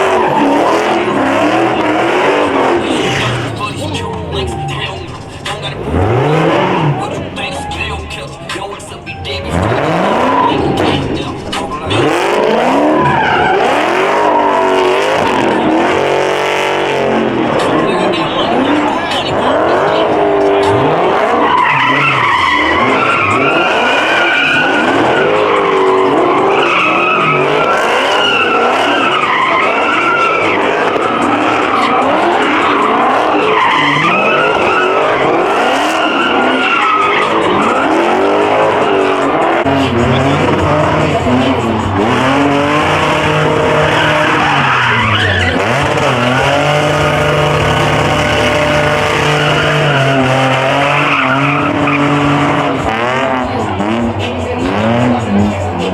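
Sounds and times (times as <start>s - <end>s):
car engines revving hard: 0.0s - 55.9s
tyres squealing and skidding: 0.0s - 55.9s.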